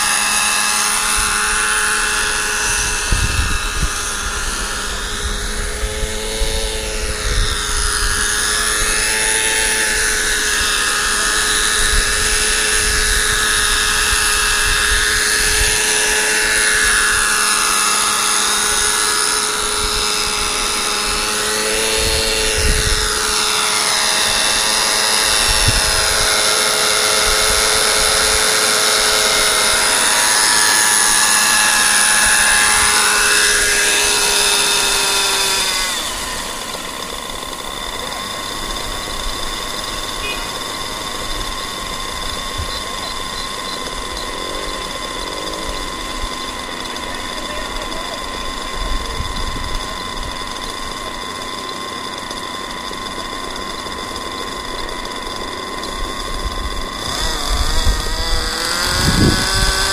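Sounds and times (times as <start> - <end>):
model helicopter engine and rotors: 0.0 - 59.9.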